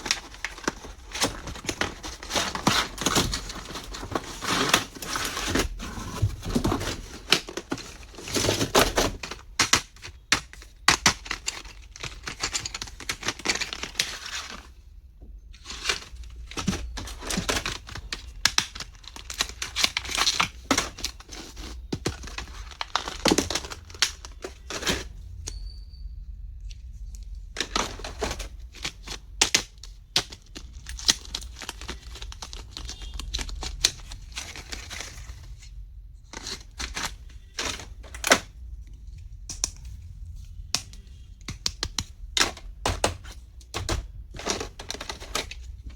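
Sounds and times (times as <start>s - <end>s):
packaging crinkling and tearing: 0.0s - 14.8s, 15.6s - 25.1s, 27.6s - 38.5s, 41.4s - 45.9s.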